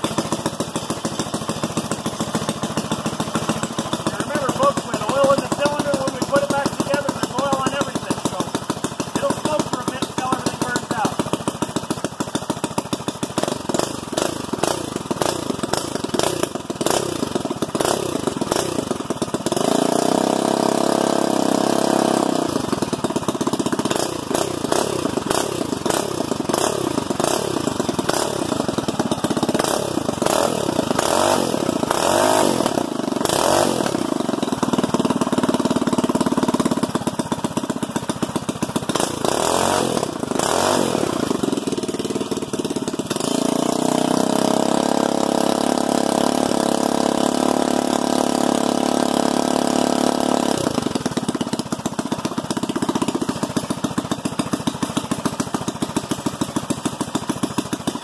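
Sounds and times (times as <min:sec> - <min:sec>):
single-cylinder engine revving: 0:00.0 - 0:58.0.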